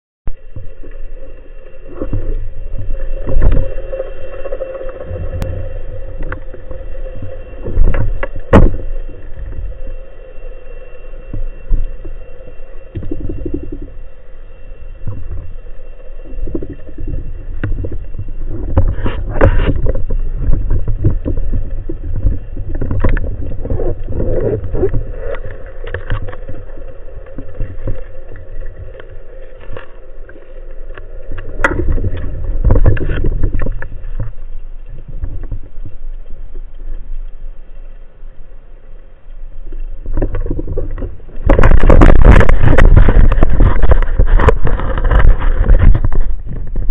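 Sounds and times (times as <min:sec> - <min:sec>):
underwater water rushing: 0:00.3 - 0:46.9.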